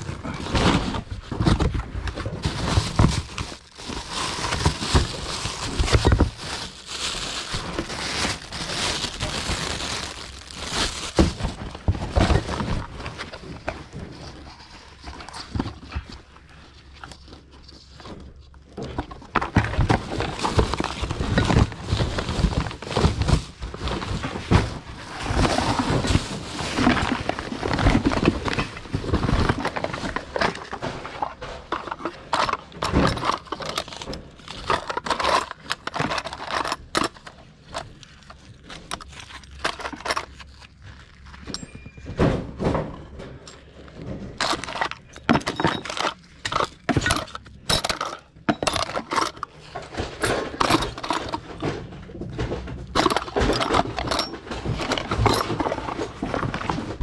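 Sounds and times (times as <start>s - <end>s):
objects rummaged through: 0.0s - 57.0s.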